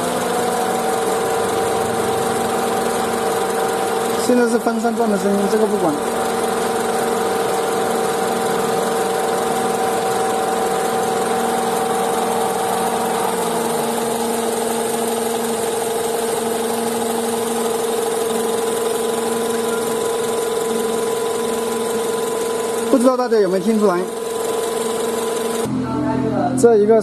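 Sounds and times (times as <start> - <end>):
car engine idling: 0.0 - 25.7
faint abnormal engine noise: 0.0 - 26.6
radiator cooling fan running: 0.0 - 27.0.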